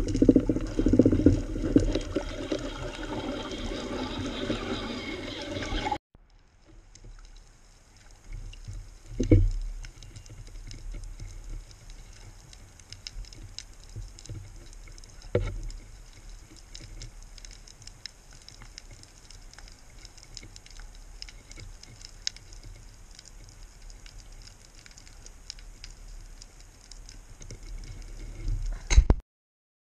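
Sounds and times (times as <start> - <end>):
low underwater rumble: 0.0 - 28.9
faint clicks and crackles: 0.0 - 29.2.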